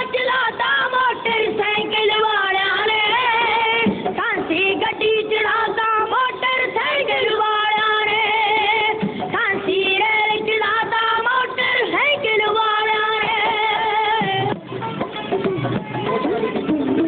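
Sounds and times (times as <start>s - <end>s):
person singing with vibrato: 0.0s - 14.5s.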